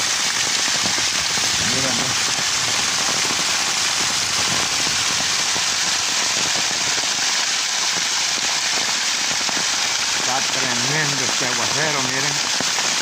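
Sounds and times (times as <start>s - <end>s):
heavy rain hiss: 0.0s - 13.0s
rainwater rushing down a wall: 0.0s - 13.0s.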